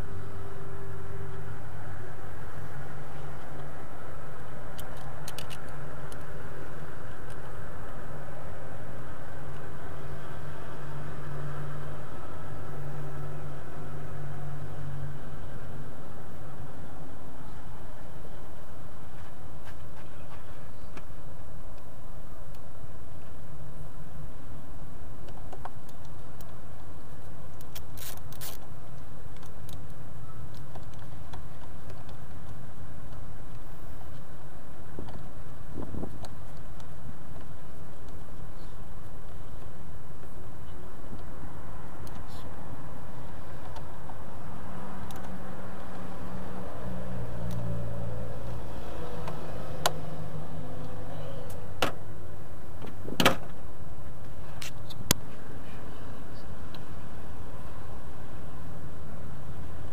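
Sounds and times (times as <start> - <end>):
steady low hum: 0.0 - 59.9
steady low rumble: 0.0 - 59.9.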